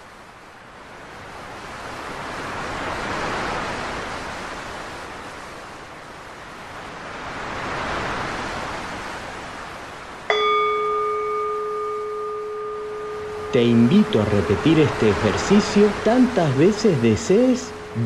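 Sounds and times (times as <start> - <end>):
sea surf washing onto beach: 0.0 - 18.0.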